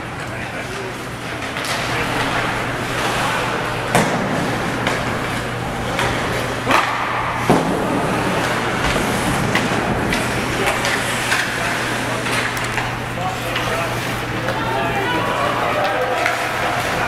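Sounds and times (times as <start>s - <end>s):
crowd noise: 0.0s - 17.0s
steady arena hum: 0.0s - 17.0s
hockey sticks clacking on puck: 0.2s - 14.7s, 15.5s - 17.0s.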